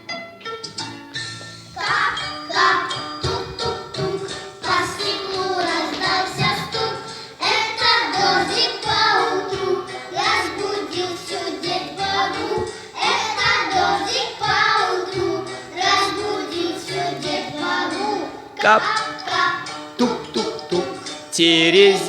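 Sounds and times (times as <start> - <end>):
musical accompaniment: 0.0 - 22.0
children singing: 1.8 - 22.0.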